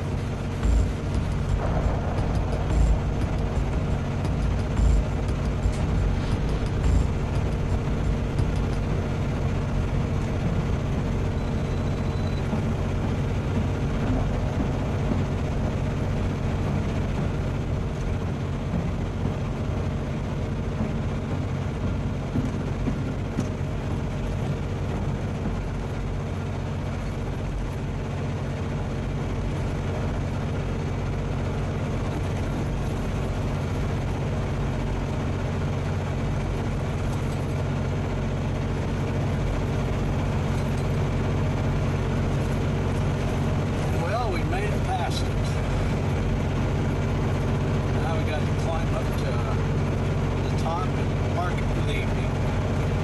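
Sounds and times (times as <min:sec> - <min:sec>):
road noise: 0:00.0 - 0:53.0
truck diesel engine droning: 0:00.0 - 0:53.0.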